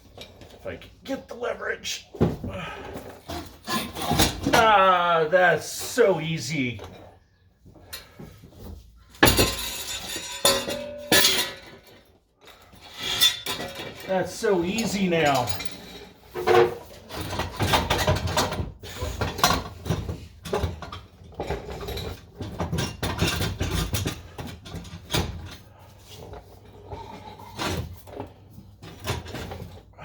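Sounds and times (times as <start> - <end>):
metal clanks and rattles: 2.2 - 4.7, 7.8 - 30.0.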